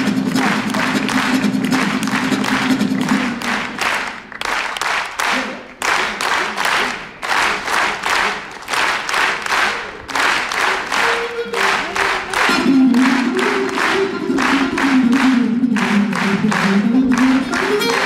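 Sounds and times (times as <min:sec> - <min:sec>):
audience clapping in unison: 0:00.0 - 0:18.0.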